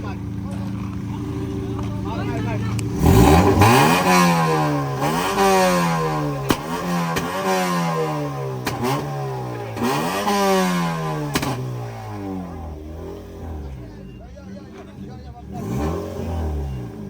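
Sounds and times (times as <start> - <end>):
car engine revving: 0.0 - 17.0
exhaust pops: 0.0 - 17.0.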